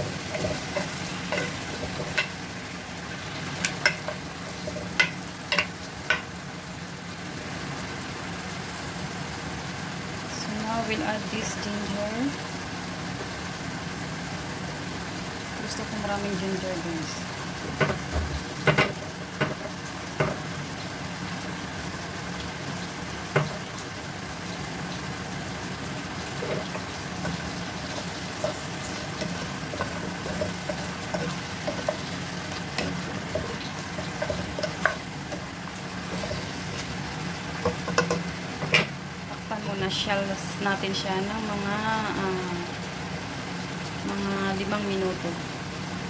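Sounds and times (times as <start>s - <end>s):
chicken sizzling in pot: 0.0s - 46.0s.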